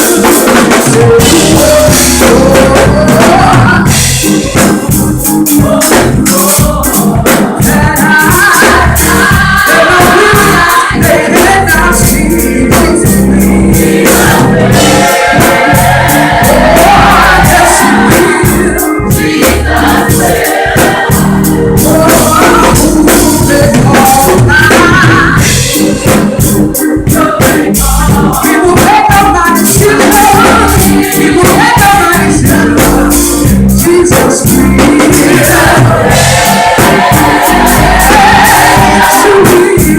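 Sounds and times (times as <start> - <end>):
band playing: 0.0 - 39.9
drums striking: 0.0 - 39.9
vocal group singing gospel: 0.0 - 39.9.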